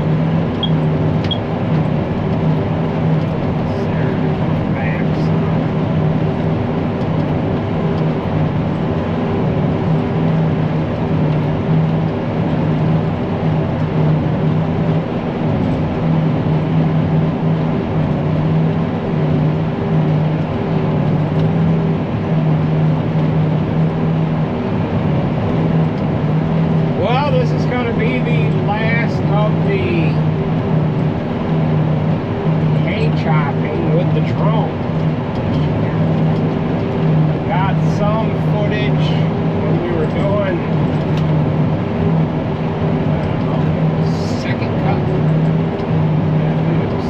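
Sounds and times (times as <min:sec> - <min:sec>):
forage harvester engine droning: 0:00.0 - 0:47.0.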